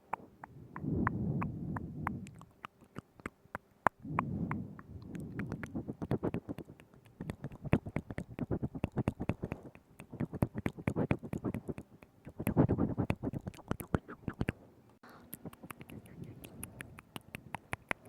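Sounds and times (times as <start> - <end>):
lip smacks: 0.0 - 14.6, 15.2 - 18.0
tongue clicks: 0.0 - 14.6, 15.2 - 18.0.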